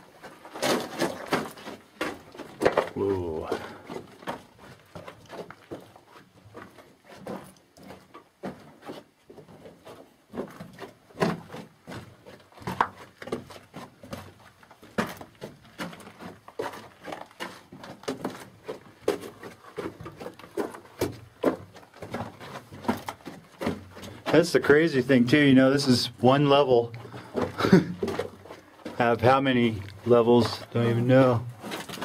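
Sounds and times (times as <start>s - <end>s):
footsteps on tunnel floor: 0.0s - 32.0s.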